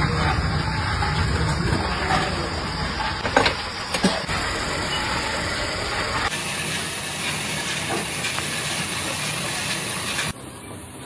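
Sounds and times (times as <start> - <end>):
kiln hissing: 0.0 - 10.4
steady background noise: 0.0 - 11.0.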